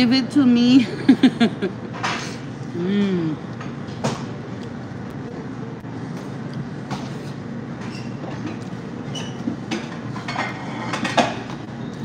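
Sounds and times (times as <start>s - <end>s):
restaurant room noise: 0.0s - 12.0s.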